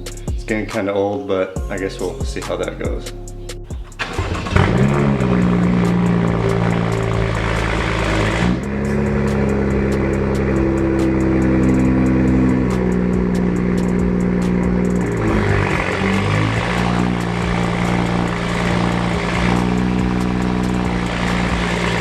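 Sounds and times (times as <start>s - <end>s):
loud engine exhaust drone: 4.0s - 22.0s.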